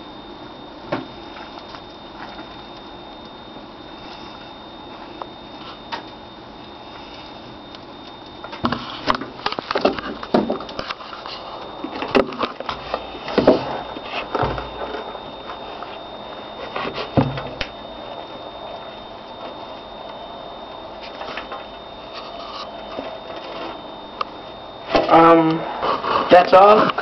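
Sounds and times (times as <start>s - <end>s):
faint high whine: 0.0s - 27.0s.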